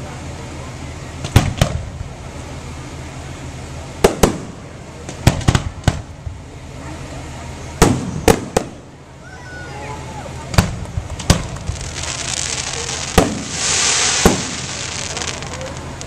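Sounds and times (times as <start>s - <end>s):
fireworks bursting: 1.1s - 6.6s, 7.5s - 9.2s, 10.3s - 16.0s.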